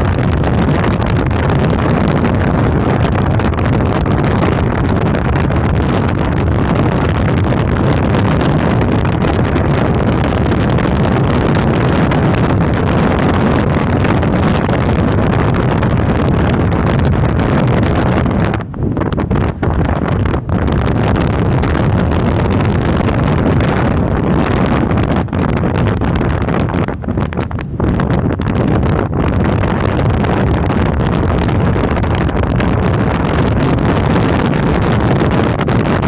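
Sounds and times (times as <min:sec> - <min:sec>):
wind rush over microphone: 0:00.0 - 0:36.0.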